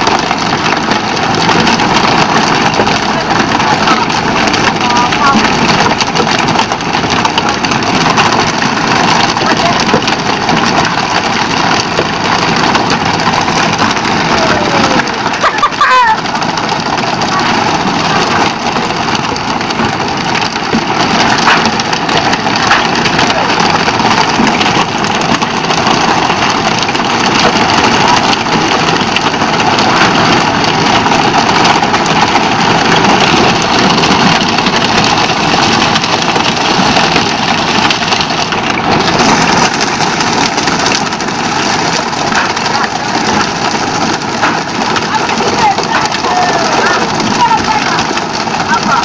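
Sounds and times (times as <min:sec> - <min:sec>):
boat engine droning: 0:00.0 - 0:49.0
rushing water: 0:00.0 - 0:49.0.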